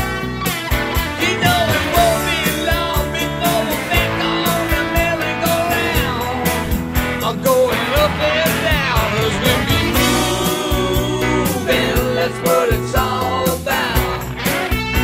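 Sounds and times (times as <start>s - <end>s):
rock song with singing: 0.0s - 15.0s
steady drum beat: 0.0s - 15.0s.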